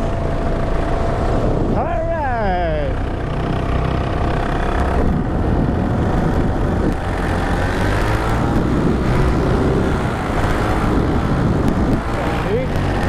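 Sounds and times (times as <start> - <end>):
paramotor engine running: 0.0 - 13.0.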